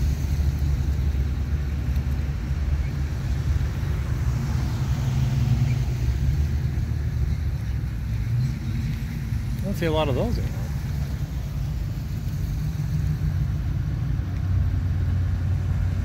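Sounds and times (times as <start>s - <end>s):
car engines rumbling past: 0.0s - 16.0s.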